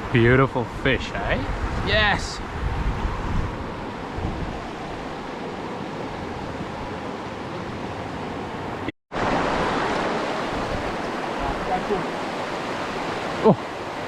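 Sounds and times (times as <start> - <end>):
river water rushing: 1.3 - 14.0.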